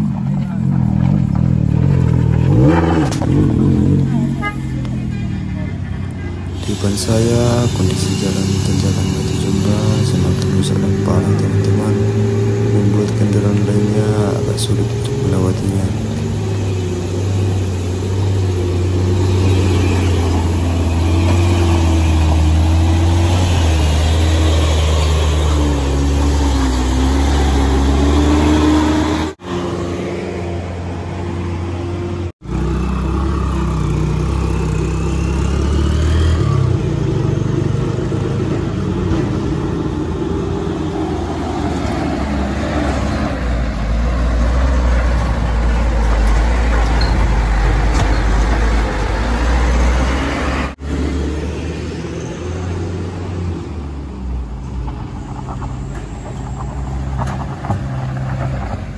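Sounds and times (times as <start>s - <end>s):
diesel engines labouring uphill: 0.0s - 58.9s.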